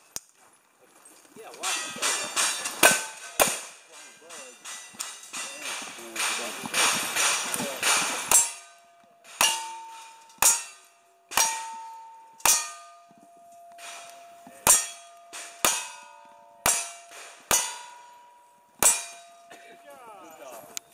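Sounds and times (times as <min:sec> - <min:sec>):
steel target plate clanging: 0:01.6 - 0:20.8.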